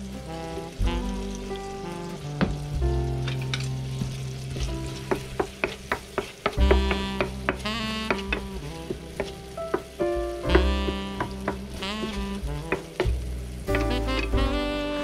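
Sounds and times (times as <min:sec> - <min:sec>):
background music: 0:00.0 - 0:15.0
food sizzling in a frying pan: 0:00.0 - 0:15.0.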